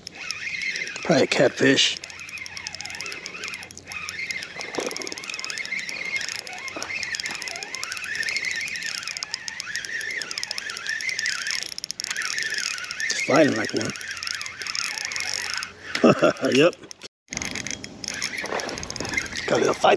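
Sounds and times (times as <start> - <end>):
fishing reel clicking: 0.0 - 19.9
high squeaky chirps: 0.0 - 19.9.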